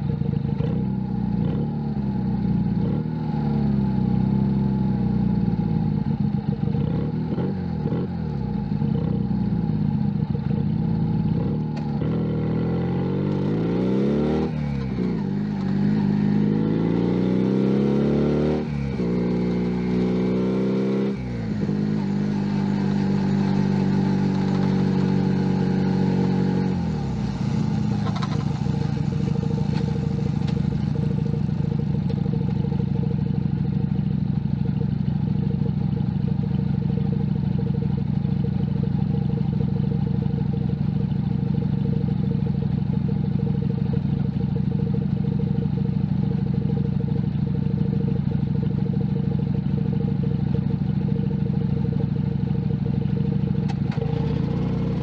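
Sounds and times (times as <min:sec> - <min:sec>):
motorcycle engine revving: 0:00.0 - 0:40.6, 0:41.2 - 0:55.0.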